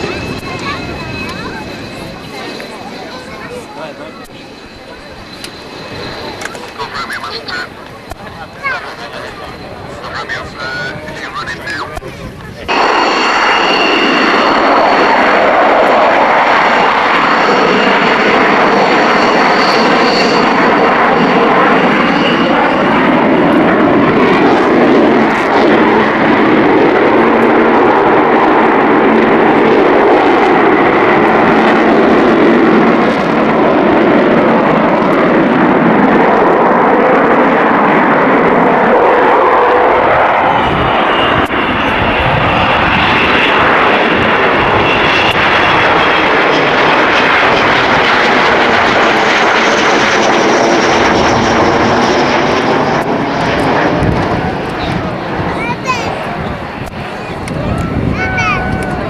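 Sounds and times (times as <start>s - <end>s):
high engine whine: 0.0s - 59.0s
jet engines roaring: 0.0s - 59.0s.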